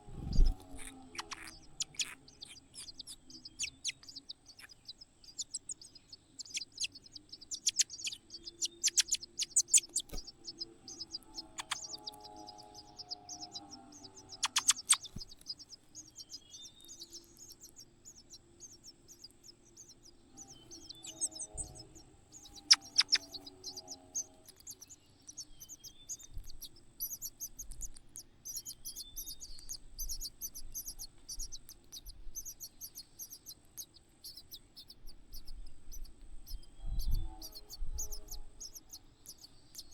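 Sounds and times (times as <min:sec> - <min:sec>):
faint steady high whine: 0:00.0 - 0:39.9
lower-pitched bird calls: 0:00.0 - 0:39.9
small birds chirping: 0:00.0 - 0:39.9.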